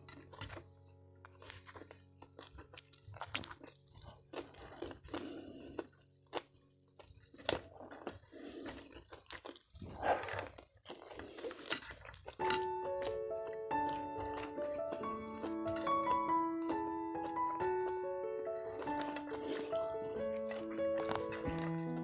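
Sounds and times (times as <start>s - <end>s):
chewing and crunching crackers: 0.0s - 22.0s.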